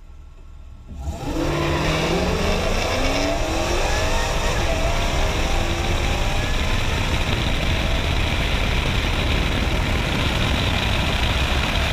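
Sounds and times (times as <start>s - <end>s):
wind and road noise: 0.0s - 11.9s.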